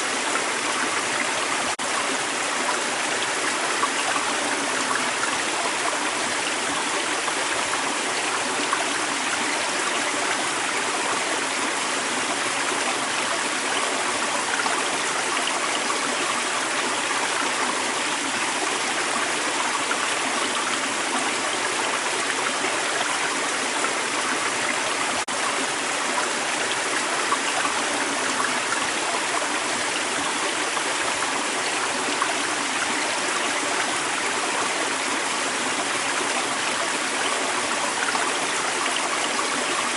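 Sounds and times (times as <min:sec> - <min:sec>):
creek water rushing and babbling: 0:00.0 - 0:39.9.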